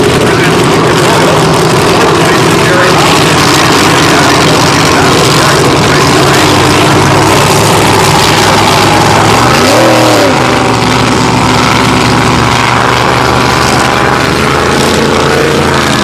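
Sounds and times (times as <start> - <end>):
racing boat engine running: 0.0 - 16.0.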